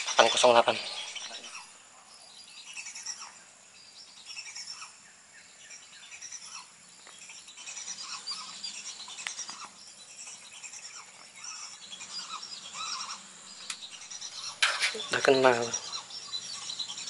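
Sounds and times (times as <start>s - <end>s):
birds chirping and calling: 0.0s - 17.0s
high insect buzz: 0.0s - 17.0s.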